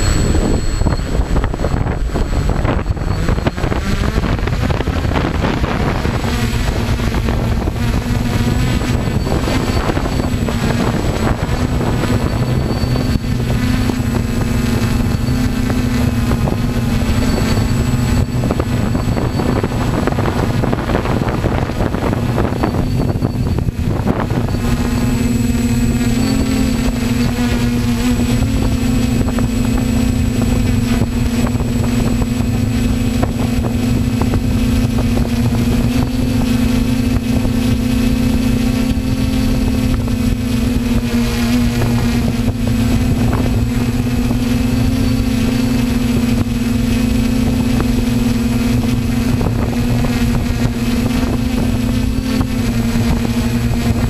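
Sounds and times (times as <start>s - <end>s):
drone propellers buzzing: 0.0s - 54.0s
wind on microphone: 0.0s - 54.0s.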